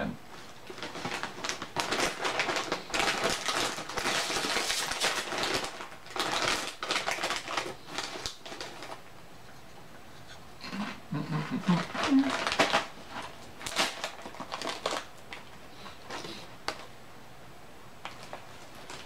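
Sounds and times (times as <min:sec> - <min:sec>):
chip bag crinkling: 0:00.3 - 0:09.1, 0:10.7 - 0:17.0, 0:18.0 - 0:19.0.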